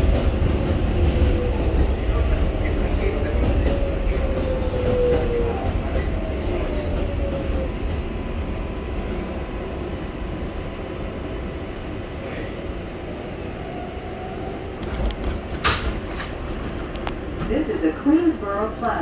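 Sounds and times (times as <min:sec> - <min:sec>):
low rumble of train wheels: 0:00.0 - 0:19.0
subway train motor whine: 0:00.0 - 0:19.0.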